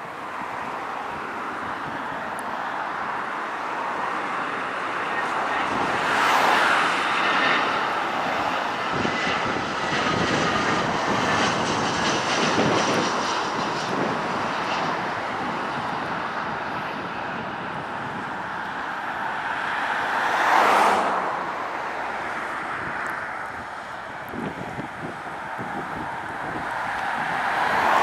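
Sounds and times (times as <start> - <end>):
jet engines passing: 0.0 - 28.0.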